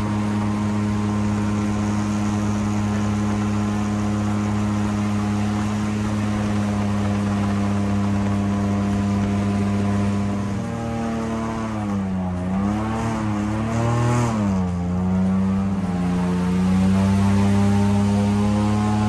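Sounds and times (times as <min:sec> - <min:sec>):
airboat engine and propeller drone: 0:00.0 - 0:19.0.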